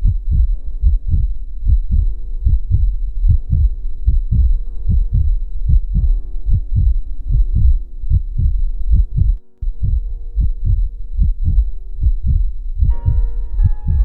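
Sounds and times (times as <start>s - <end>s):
heartbeat low thumps: 0.0s - 14.0s
steady hum: 0.0s - 14.0s.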